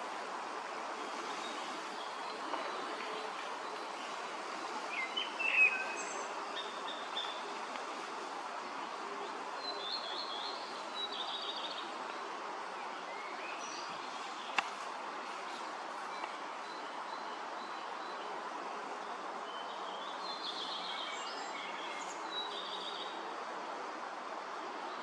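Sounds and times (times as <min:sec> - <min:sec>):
flowing creek water: 0:00.0 - 0:25.0.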